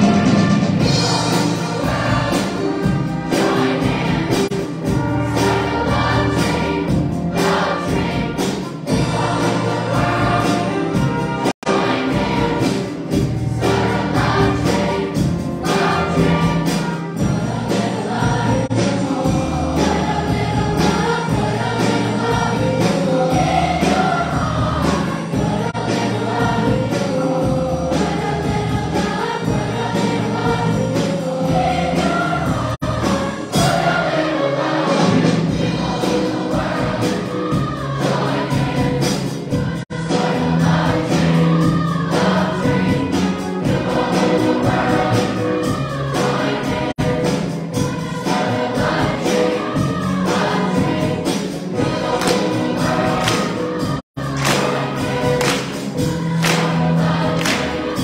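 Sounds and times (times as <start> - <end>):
choir singing: 0.0 - 58.0
string orchestra: 0.0 - 58.0.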